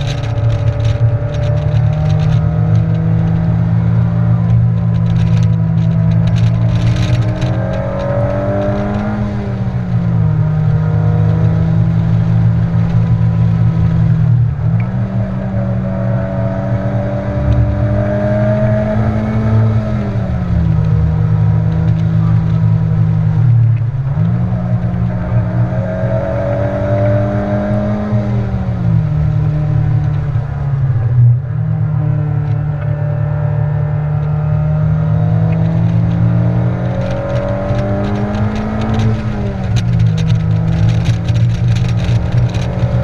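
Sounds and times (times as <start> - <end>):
car engine revving under power: 0.0 - 30.7, 31.3 - 43.0.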